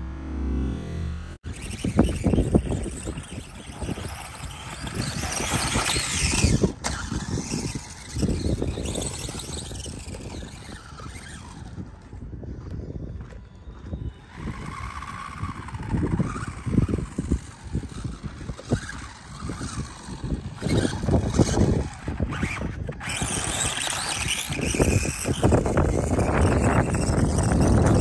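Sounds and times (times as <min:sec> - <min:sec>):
electric motor whining: 0:00.0 - 0:28.0
gusty wind on microphone: 0:01.3 - 0:28.0.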